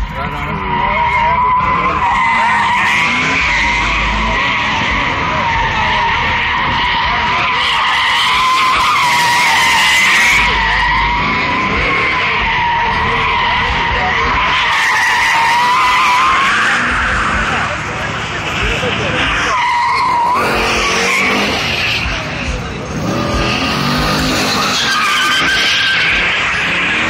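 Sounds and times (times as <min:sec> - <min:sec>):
tyres squealing on asphalt: 0:00.0 - 0:27.0.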